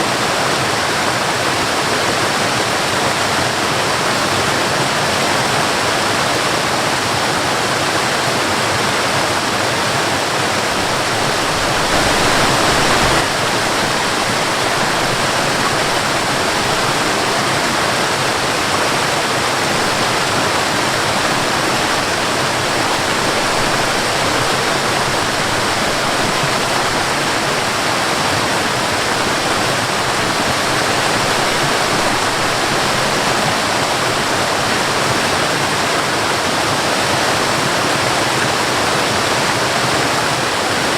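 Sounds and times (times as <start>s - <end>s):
waterfall and river rushing: 0.0s - 40.9s.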